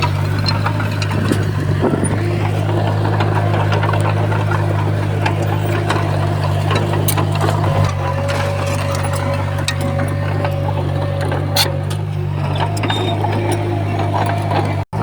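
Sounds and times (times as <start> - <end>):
light clicks and clanks: 0.0 - 14.8
diesel engine humming: 0.0 - 15.0.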